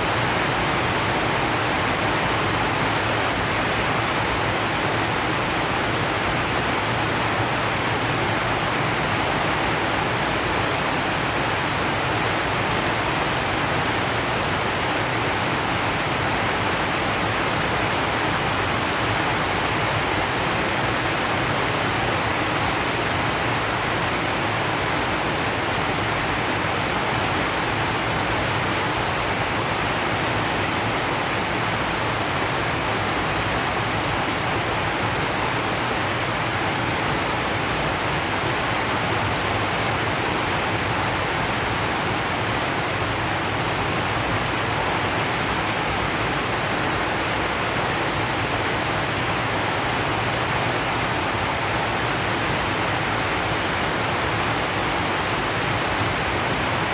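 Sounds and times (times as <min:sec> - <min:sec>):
rain on a metal roof: 0:00.0 - 0:56.9.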